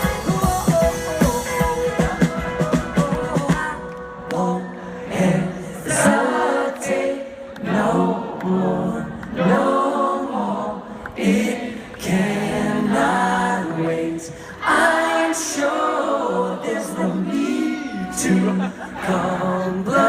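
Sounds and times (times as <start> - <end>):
group singing a cappella: 0.0 - 20.0.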